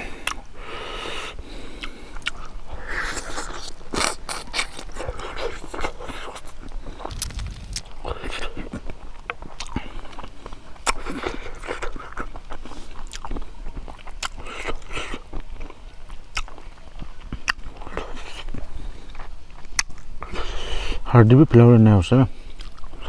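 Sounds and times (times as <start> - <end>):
man chewing food: 0.0 - 21.0, 22.3 - 23.0.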